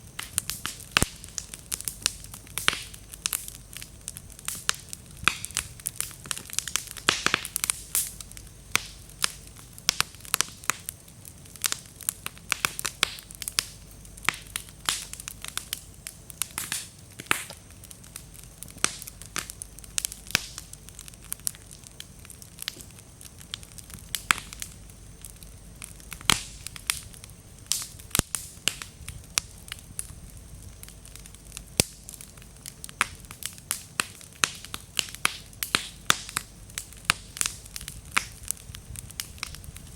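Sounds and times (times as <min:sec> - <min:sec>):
low rush of flames: 0:00.0 - 0:39.9
damp firewood popping: 0:00.1 - 0:39.9.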